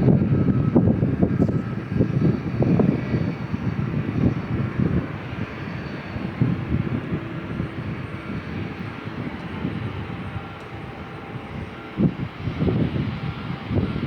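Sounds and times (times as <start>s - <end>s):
jet aircraft engine noise: 0.0s - 14.0s
wind buffeting microphone: 0.0s - 14.0s.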